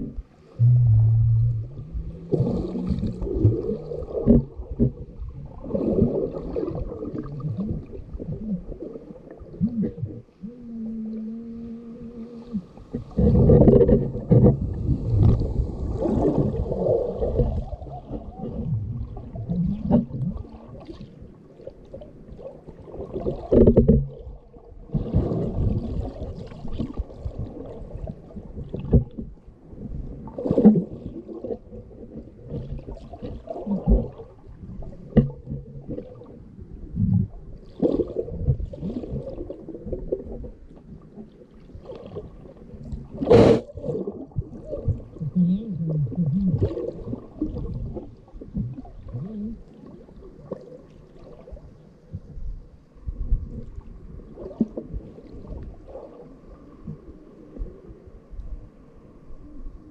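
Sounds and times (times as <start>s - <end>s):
water sloshing underwater: 0.0s - 59.9s.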